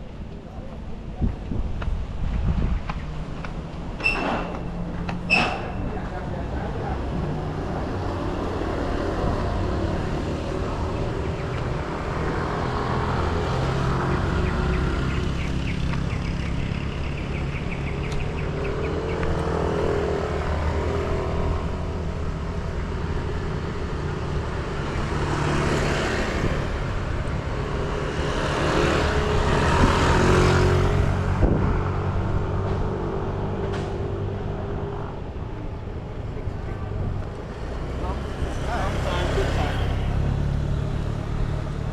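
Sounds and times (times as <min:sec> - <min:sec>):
vehicle engine rumble: 0:00.0 - 0:41.9.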